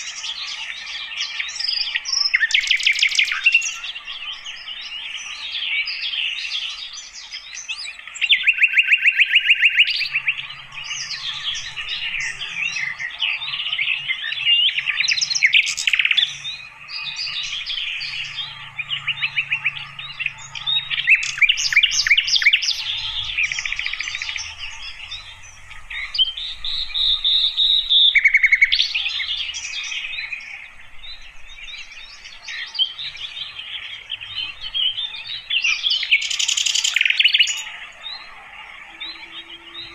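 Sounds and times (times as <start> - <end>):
birds chorus: 0.0 - 39.9
fast rattling bird trills: 0.0 - 39.9.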